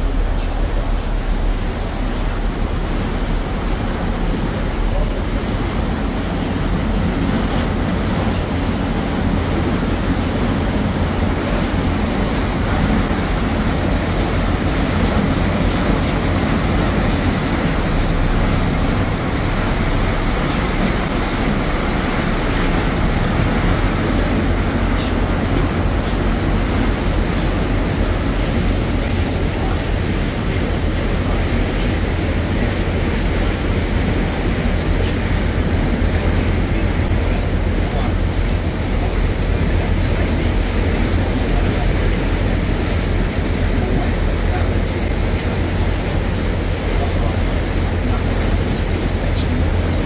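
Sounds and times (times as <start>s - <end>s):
ship engine rumble: 0.0s - 50.0s
water rushing in boat wake: 0.0s - 50.0s.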